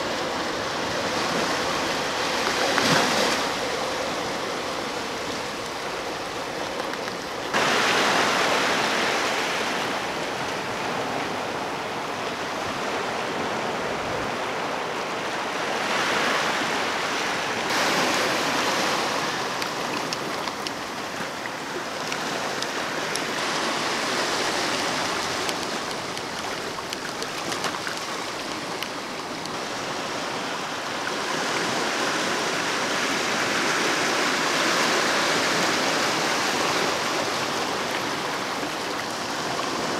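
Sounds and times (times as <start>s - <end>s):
surf washing over rocks: 0.0s - 39.9s.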